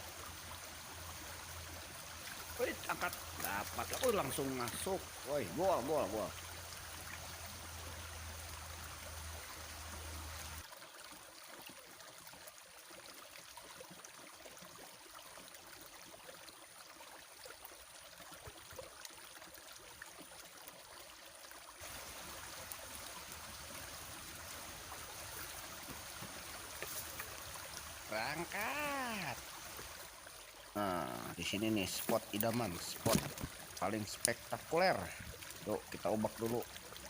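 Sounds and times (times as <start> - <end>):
stream trickling: 0.0 - 37.0.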